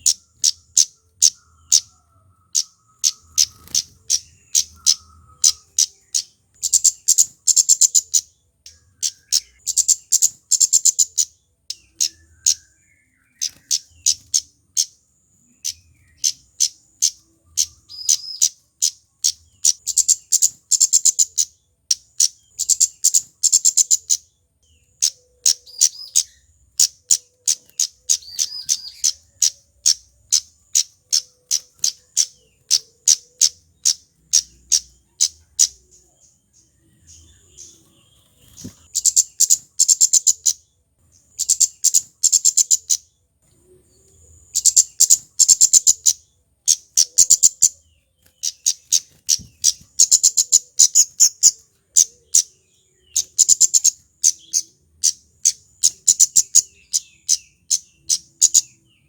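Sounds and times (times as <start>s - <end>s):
bird high ticking calls: 0.0s - 59.0s.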